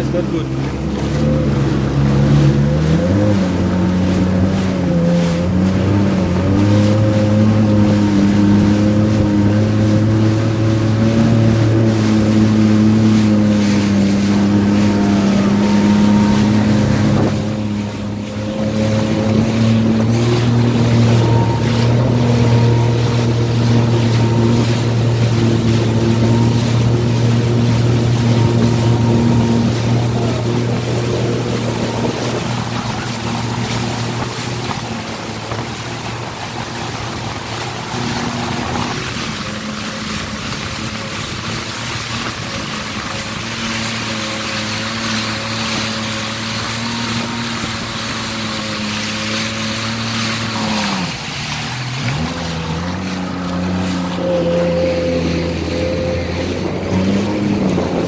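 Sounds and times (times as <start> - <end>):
jet ski engine running: 0.0 - 58.0
wind on microphone: 1.4 - 58.0.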